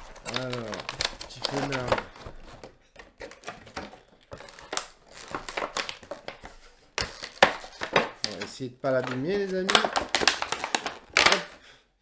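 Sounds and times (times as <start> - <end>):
packaging crinkling and rustling: 0.0 - 11.7.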